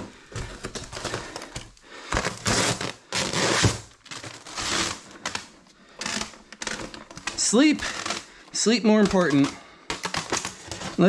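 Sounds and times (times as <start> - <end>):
crinkling scraping handling noise: 0.0 - 11.0.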